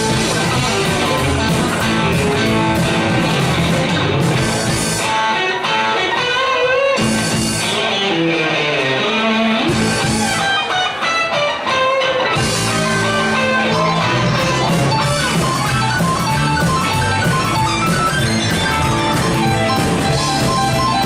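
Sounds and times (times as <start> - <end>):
bass: 0.0 - 5.2, 7.0 - 10.6, 12.2 - 21.0
electric guitar: 0.0 - 21.0
live band playing: 0.0 - 21.0.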